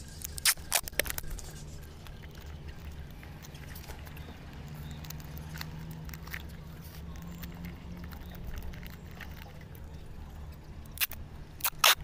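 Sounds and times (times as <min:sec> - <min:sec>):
steady low hum: 0:00.0 - 0:12.0
clicks and snaps of handling: 0:00.2 - 0:10.0, 0:10.8 - 0:12.0.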